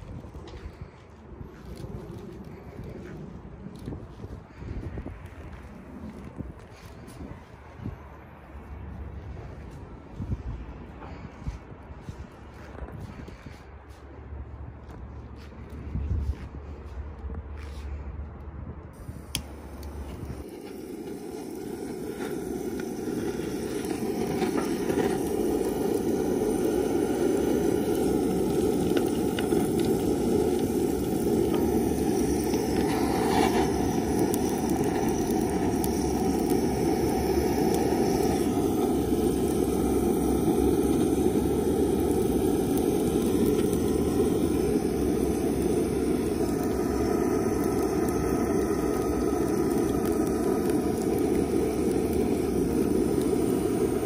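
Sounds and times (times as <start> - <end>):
gas torch burning: 0.0 - 18.0, 18.9 - 54.0.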